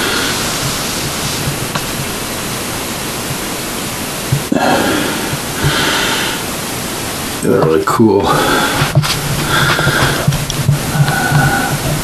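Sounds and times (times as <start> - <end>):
loud rushing hiss: 0.0 - 12.0.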